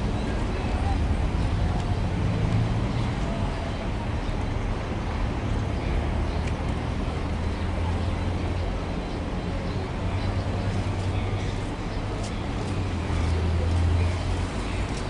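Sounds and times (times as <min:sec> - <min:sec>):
faint voices: 0:00.0 - 0:15.0
low street rumble: 0:00.0 - 0:15.0.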